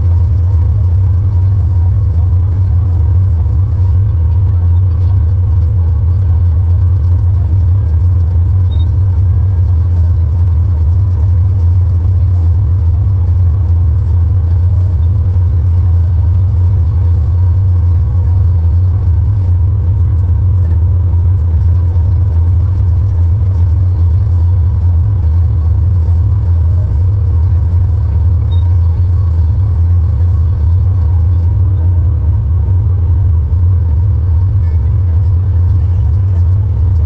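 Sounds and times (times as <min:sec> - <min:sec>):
faint steady whine: 0:00.0 - 0:37.0
tractor engine drone: 0:00.0 - 0:37.0.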